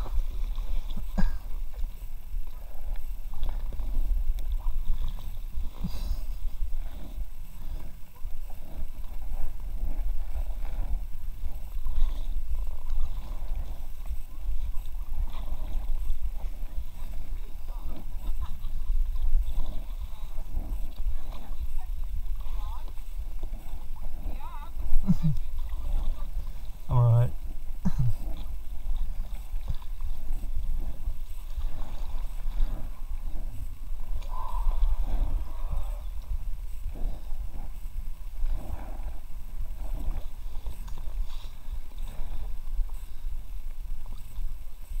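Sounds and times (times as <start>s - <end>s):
steady low rumble: 0.0s - 45.0s
water splashing against kayak: 0.0s - 45.0s.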